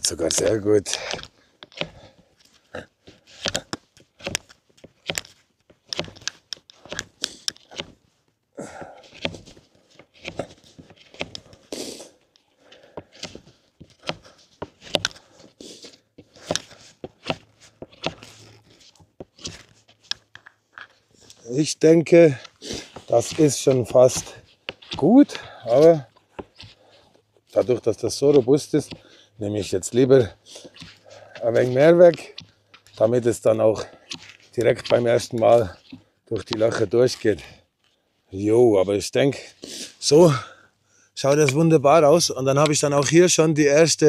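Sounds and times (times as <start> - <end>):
knife scraping wood: 0.0 - 38.0.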